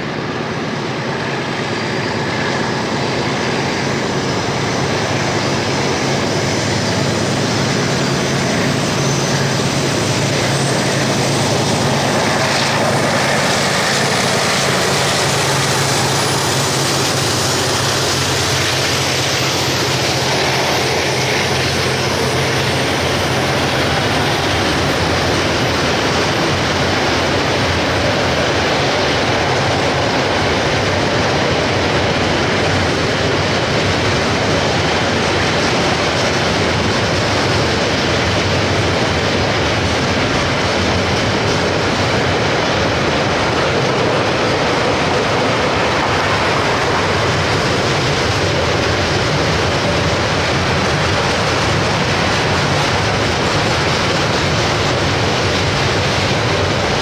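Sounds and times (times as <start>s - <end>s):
freight train wagons rolling past: 0.0s - 57.0s.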